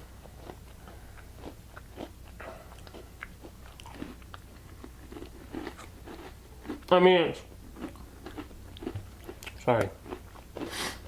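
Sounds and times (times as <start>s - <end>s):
crunchy chewing of cookies: 0.0s - 11.0s.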